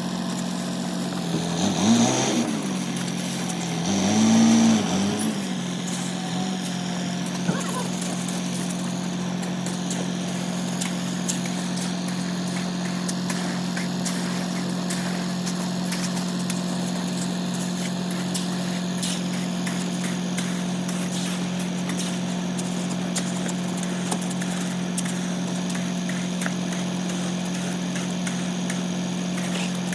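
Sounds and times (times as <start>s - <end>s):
engine running steadily: 0.0s - 29.9s.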